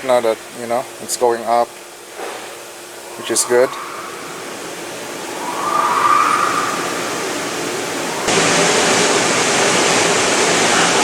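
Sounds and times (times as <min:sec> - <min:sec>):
smoke machine hissing: 0:00.0 - 0:11.0.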